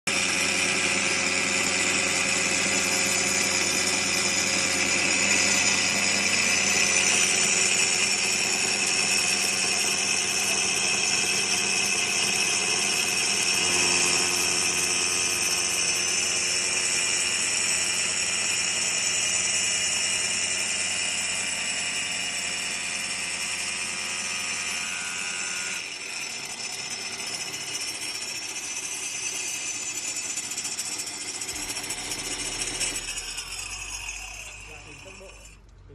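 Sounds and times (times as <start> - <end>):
stone-cutting saw whining: 0.1 - 35.9.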